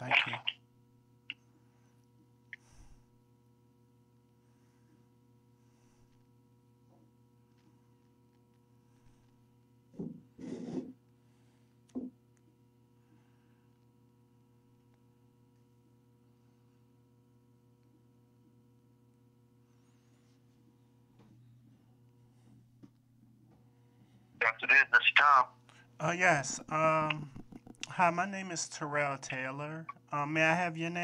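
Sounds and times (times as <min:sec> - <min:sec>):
faint telephone line hum: 0:00.0 - 0:31.0.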